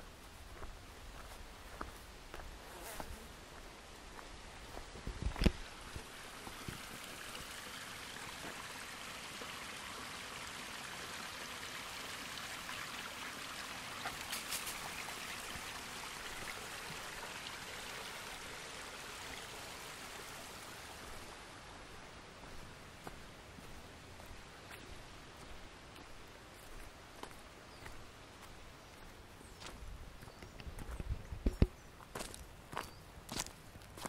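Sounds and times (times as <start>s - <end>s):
stream running: 0.0s - 34.0s.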